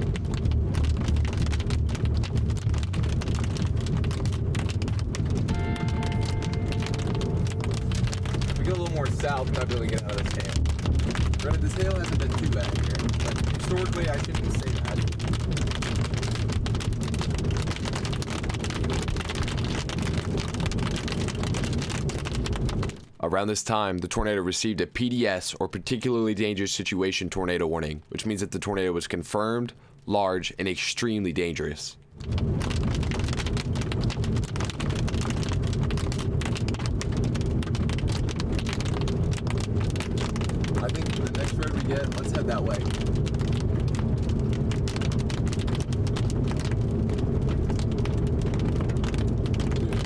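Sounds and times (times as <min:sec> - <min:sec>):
hail and rain hitting car: 0:00.0 - 0:23.2, 0:31.5 - 0:50.0
road and engine rumble: 0:00.0 - 0:23.2, 0:32.1 - 0:50.0.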